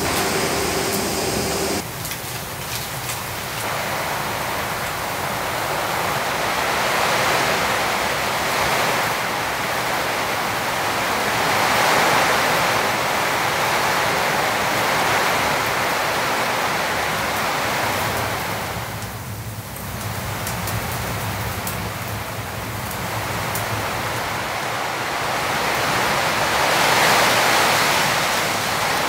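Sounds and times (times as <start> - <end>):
heavy rain on roof: 0.0 - 29.0.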